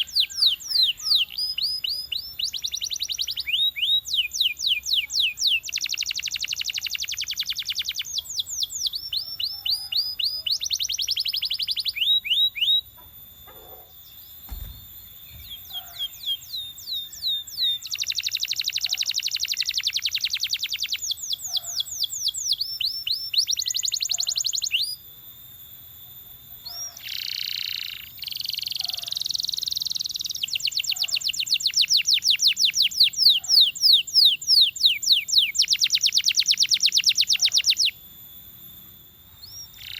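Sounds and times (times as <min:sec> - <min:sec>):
canary singing fast trills: 0:00.0 - 0:25.1, 0:25.9 - 0:39.9.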